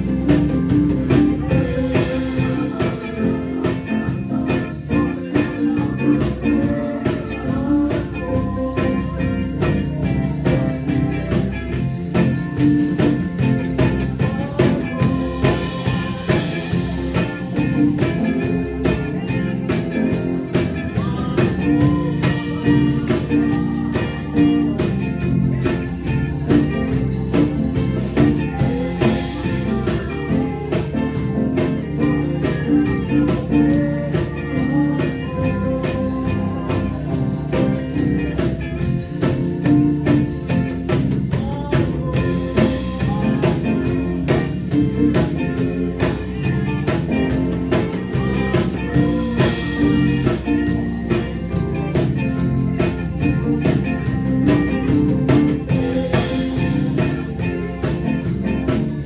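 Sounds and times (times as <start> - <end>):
gospel music instruments: 0.0 - 59.0
tambourine shaken and struck: 0.0 - 59.0.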